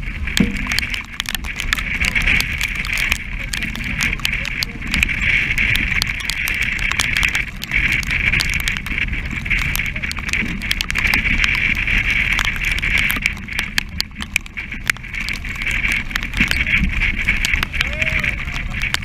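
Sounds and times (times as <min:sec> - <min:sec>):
low rumble: 0:00.0 - 0:19.0
strong wind buffeting microphone: 0:00.0 - 0:19.0
water spray tapping on camera: 0:00.0 - 0:19.0.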